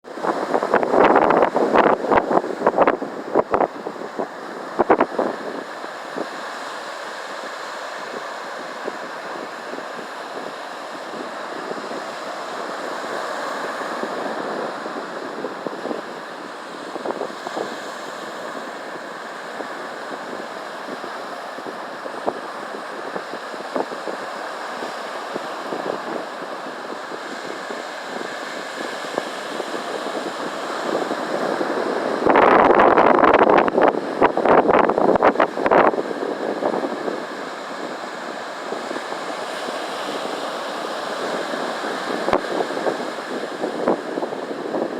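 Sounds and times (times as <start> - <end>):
ocean surf washing ashore: 0.0 - 44.9
wind buffeting microphone: 0.0 - 44.9.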